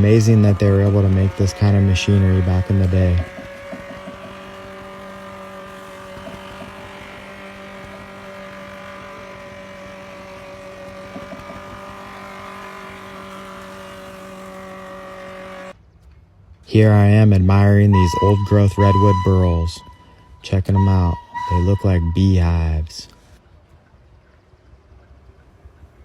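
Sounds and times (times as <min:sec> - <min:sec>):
wood planer humming: 0:00.0 - 0:15.8, 0:17.0 - 0:22.9.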